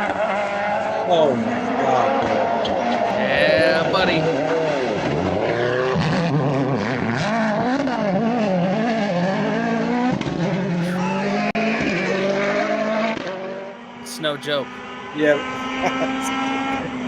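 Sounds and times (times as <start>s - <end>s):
rally car engine at full throttle: 0.0s - 14.1s.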